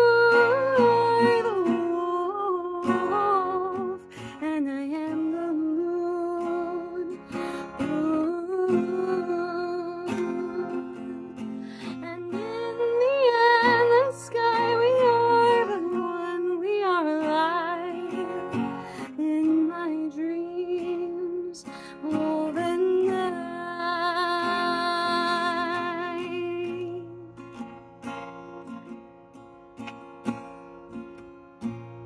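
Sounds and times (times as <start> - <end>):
woman singing wordless melody: 0.0 - 27.4
acoustic guitar: 0.0 - 32.0.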